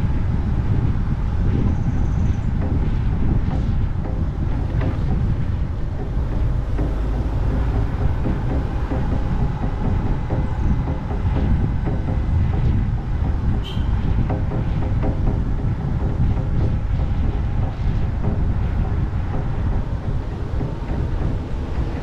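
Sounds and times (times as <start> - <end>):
car engine and road rumble: 0.0 - 22.0
wind on microphone: 0.0 - 22.0.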